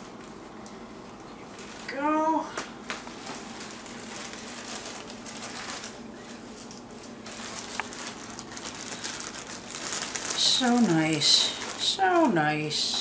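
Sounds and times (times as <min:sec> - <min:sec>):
faint steady hum: 0:00.0 - 0:13.0
plastic bag crinkling: 0:01.4 - 0:13.0.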